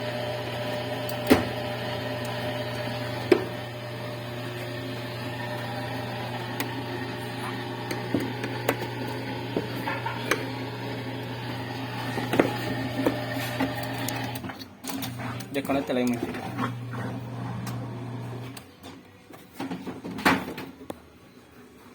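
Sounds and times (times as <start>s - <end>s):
washing machine humming: 0.0s - 18.6s.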